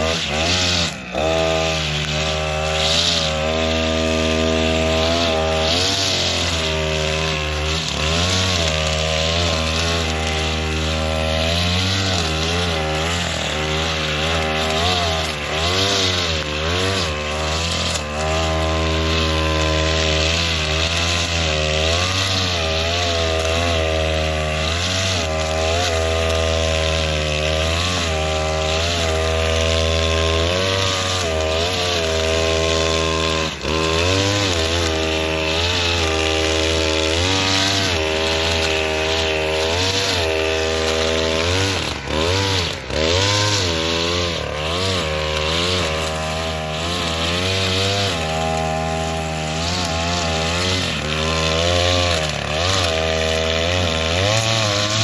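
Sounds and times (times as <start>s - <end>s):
brushcutter cutting grass: 0.0s - 55.0s.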